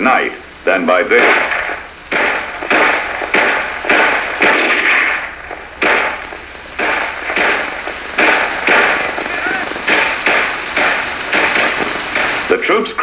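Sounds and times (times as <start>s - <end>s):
rifle shots: 0.0s - 12.8s.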